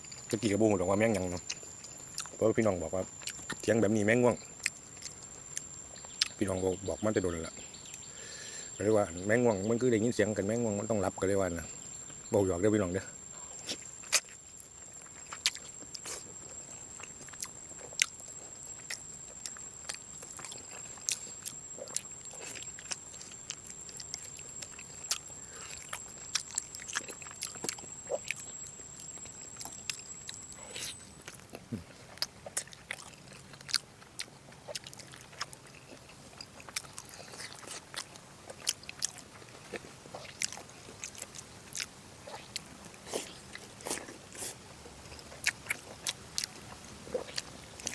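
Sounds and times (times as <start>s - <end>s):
chewing and biting food: 0.0s - 8.1s, 11.8s - 47.9s
high-pitched insect trill: 0.0s - 47.9s.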